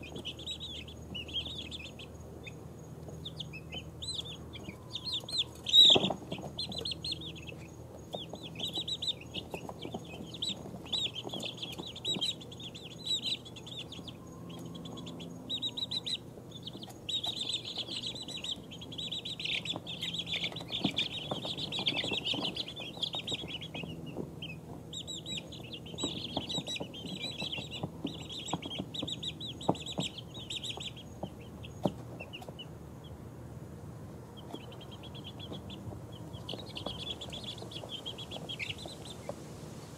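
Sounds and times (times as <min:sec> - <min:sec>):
chicks peeping: 0:00.0 - 0:39.9
faint low hum: 0:00.0 - 0:39.9.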